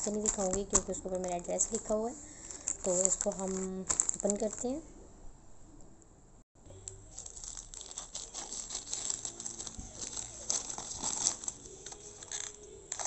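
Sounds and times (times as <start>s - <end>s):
plastic mailer bag crinkling: 0.0s - 4.8s, 6.8s - 13.0s.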